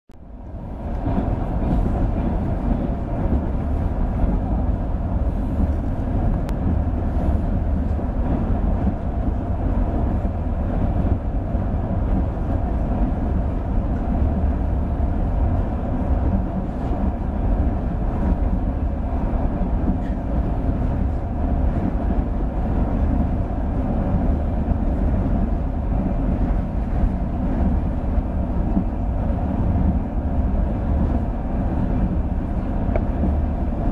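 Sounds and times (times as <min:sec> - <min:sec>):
train wheels on rails: 0:00.4 - 0:33.9.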